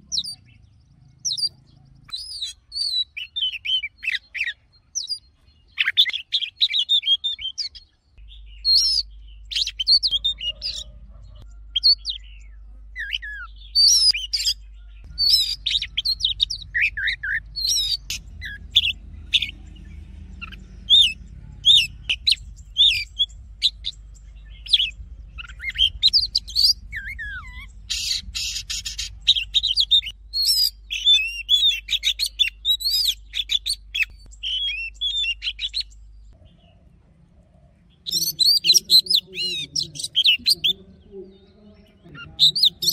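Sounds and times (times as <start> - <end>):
magpie-robin singing: 0.0 - 36.9, 37.8 - 42.9.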